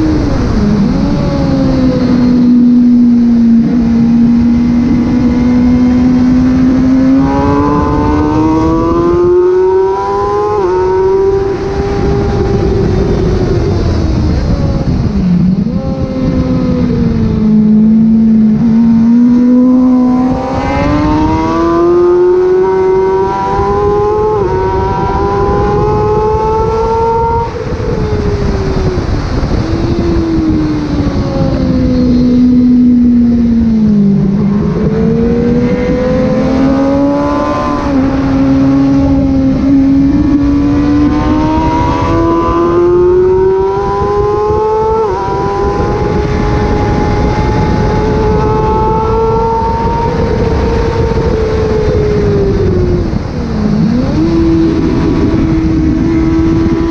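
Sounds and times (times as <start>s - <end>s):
sportbike engine revving hard: 0.0s - 27.9s, 28.8s - 56.9s.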